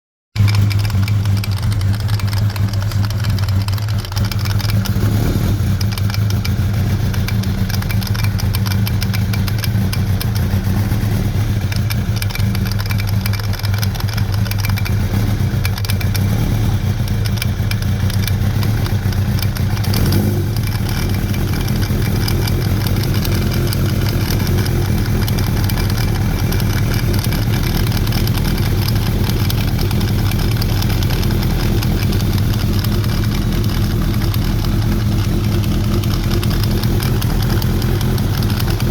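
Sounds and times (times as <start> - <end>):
motorcycle engine idling: 0.4 - 38.9.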